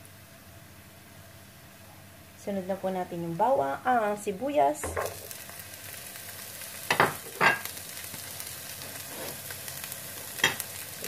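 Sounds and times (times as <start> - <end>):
onion and garlic frying: 0.0 - 11.0.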